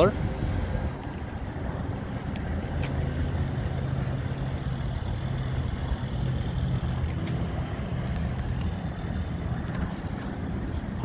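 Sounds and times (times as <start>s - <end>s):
diesel truck engine idling: 0.0s - 11.0s
outdoor background noise: 0.0s - 11.0s.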